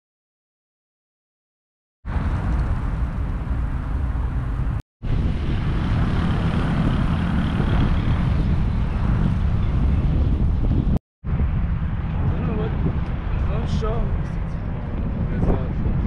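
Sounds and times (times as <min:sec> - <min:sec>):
moving vehicle rumbling: 0:02.1 - 0:16.0.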